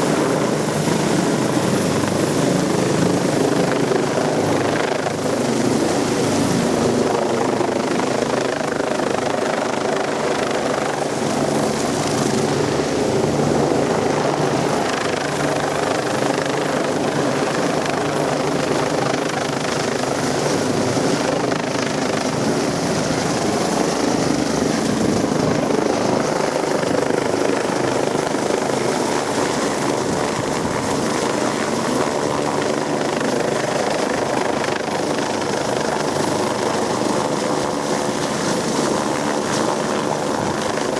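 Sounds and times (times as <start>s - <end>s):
helicopter rotor and engine hum: 0.0s - 40.9s.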